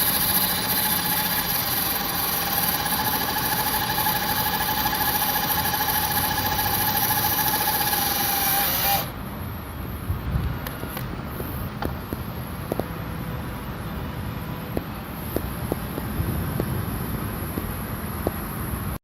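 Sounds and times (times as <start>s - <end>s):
constant high whine: 0.0s - 19.0s
engine running: 0.0s - 19.0s.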